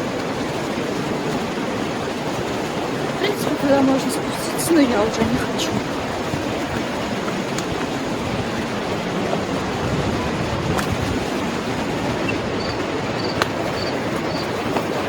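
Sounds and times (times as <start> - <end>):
whitewater rapids roaring: 0.0 - 15.0.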